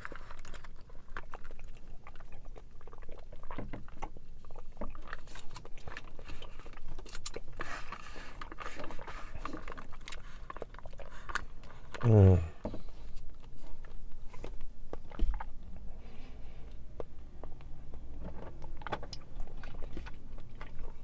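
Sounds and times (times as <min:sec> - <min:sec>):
chewing with wet mouth clicks: 0:00.0 - 0:21.0.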